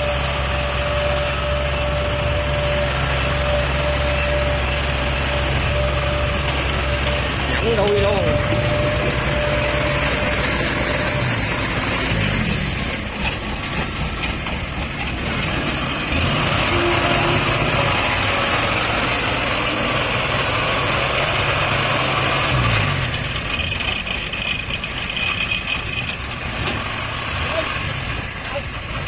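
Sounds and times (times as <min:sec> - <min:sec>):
harvester diesel engine running: 0:00.0 - 0:29.0.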